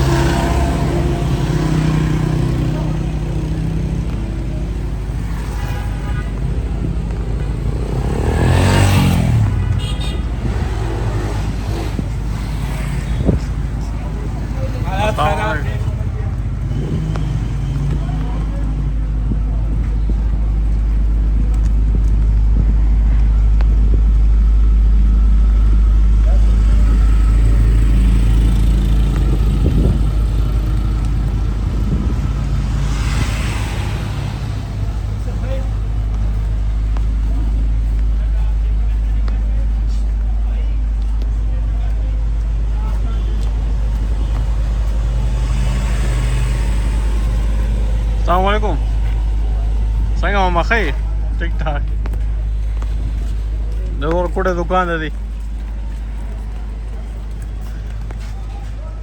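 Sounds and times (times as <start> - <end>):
vehicle engines running: 0.0 - 59.0
vehicle passing close: 0.0 - 59.0.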